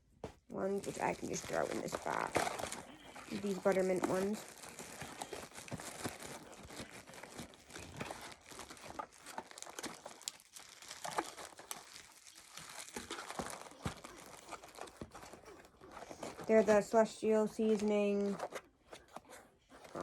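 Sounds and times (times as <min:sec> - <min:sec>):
packaging crinkling: 0:00.5 - 0:20.0.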